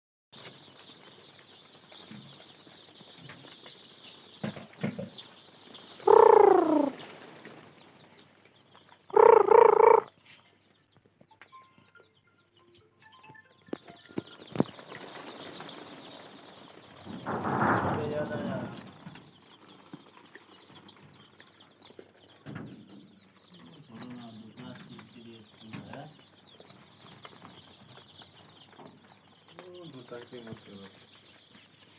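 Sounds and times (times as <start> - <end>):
chickens calling: 0.4 - 11.2, 13.7 - 31.9.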